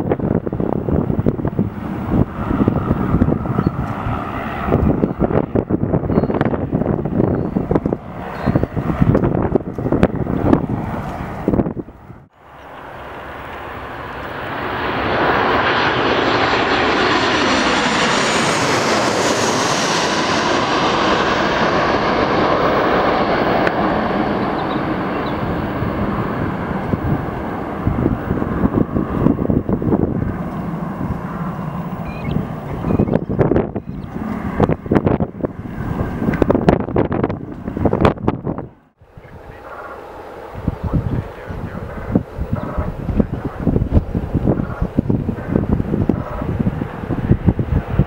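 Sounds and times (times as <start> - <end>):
jet airliner passing overhead: 0.0 - 48.0
wind on microphone: 0.0 - 48.0.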